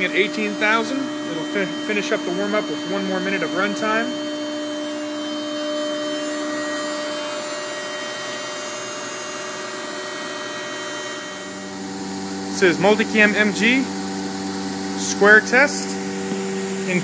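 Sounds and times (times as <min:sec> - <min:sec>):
router spindle airy hiss: 0:00.0 - 0:17.0.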